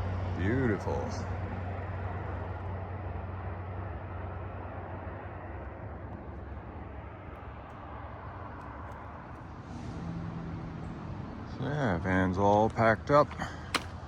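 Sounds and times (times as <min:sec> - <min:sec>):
highway traffic rumble: 0:00.0 - 0:14.0.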